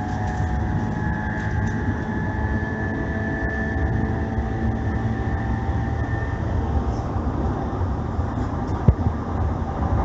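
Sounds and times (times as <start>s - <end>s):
faint steady whine: 0.0s - 10.0s
train wheels rumbling on rail: 0.0s - 10.0s.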